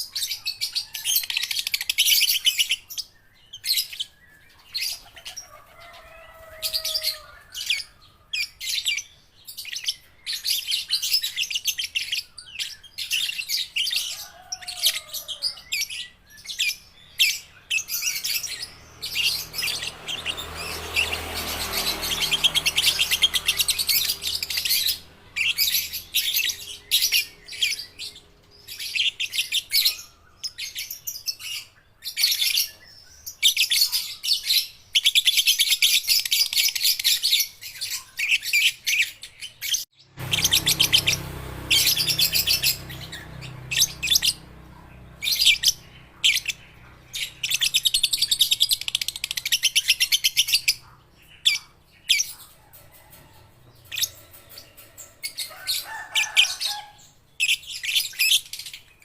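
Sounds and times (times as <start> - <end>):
young lovebirds chirping: 0.0 - 39.2, 40.2 - 58.8.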